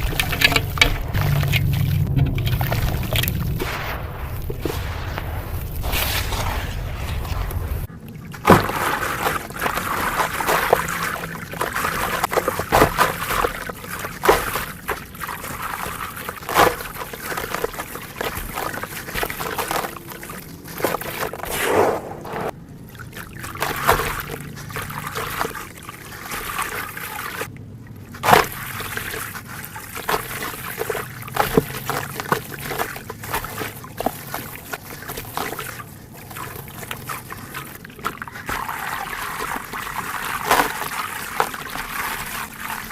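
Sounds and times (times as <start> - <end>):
dirt and coal crumbling: 0.0 - 22.6, 28.1 - 42.9.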